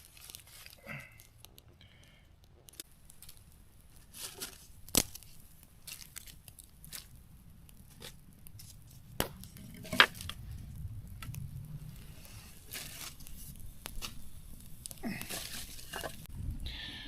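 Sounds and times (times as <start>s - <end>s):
sticks being handled: 0.0s - 1.7s, 2.6s - 16.3s
sharp wood cracks: 0.0s - 16.3s
campfire snaps and crackles: 0.0s - 17.0s.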